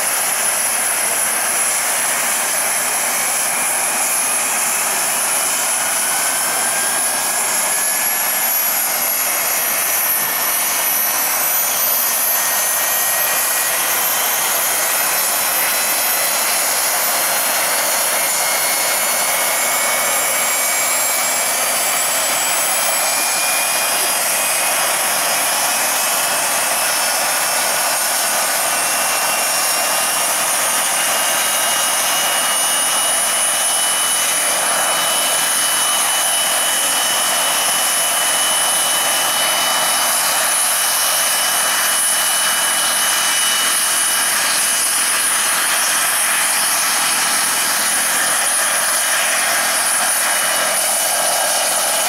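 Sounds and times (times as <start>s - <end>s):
gas turbine whining: 0.0s - 52.0s.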